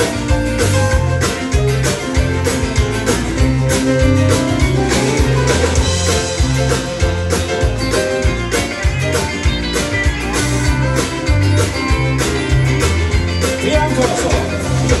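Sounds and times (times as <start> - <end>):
bass guitar: 0.0 - 15.0
drums beat: 0.0 - 15.0
live country gospel band: 0.0 - 15.0.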